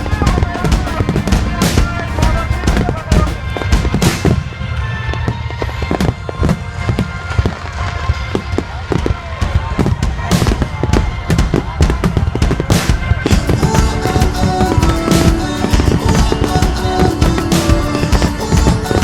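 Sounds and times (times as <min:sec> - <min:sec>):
fireworks bangs and crackles: 0:00.0 - 0:19.0
music: 0:00.0 - 0:19.0.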